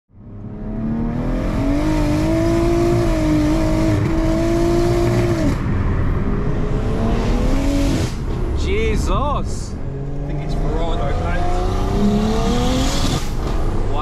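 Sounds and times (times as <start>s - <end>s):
car engine revving: 0.2s - 14.0s.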